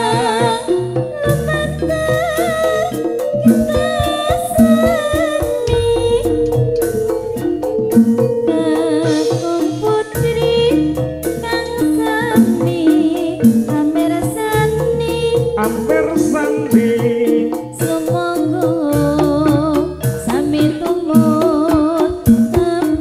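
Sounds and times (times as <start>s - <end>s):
sustained instrumental tones: 0.0s - 22.1s
drum strokes: 0.0s - 23.0s
woman singing with vibrato: 0.0s - 23.0s.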